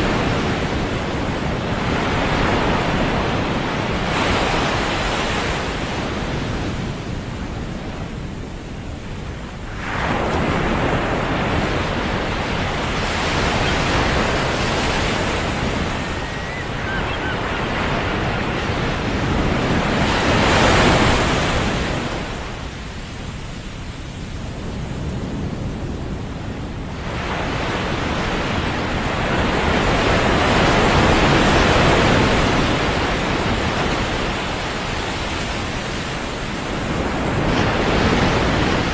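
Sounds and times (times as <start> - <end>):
low rumble of wind: 0.0 - 38.9
ocean waves breaking on beach: 0.0 - 38.9.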